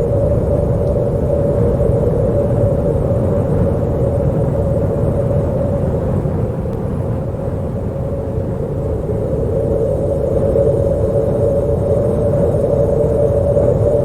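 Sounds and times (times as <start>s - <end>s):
howling wind: 0.0s - 14.0s.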